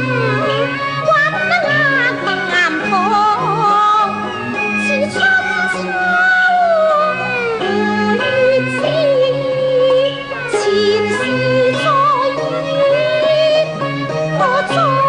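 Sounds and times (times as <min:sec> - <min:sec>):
orchestral accompaniment: 0:00.0 - 0:15.0
woman singing ballad with vibrato: 0:00.0 - 0:15.0.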